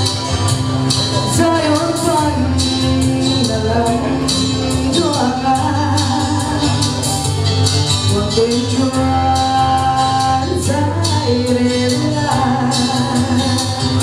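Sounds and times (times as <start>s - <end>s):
bass notes: 0.0s - 14.0s
woman singing into microphone: 1.2s - 7.3s, 8.0s - 14.0s.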